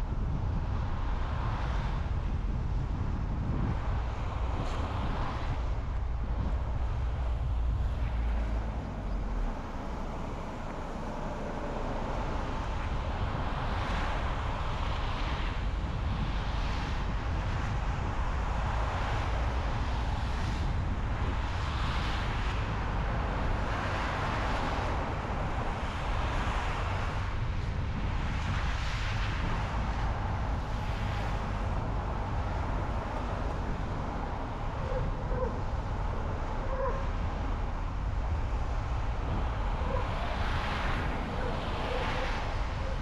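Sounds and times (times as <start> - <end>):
car tyres and wind rumble: 0.0 - 43.0.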